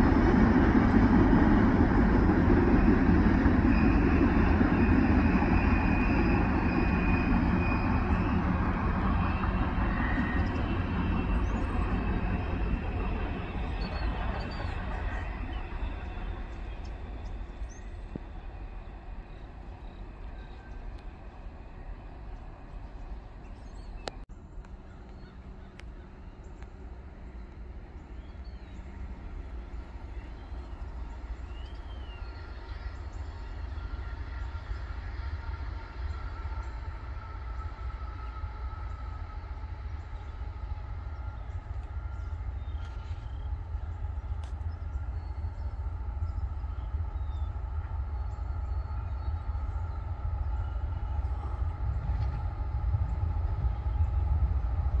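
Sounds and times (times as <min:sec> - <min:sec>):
freight train rumble: 0:00.0 - 0:55.0.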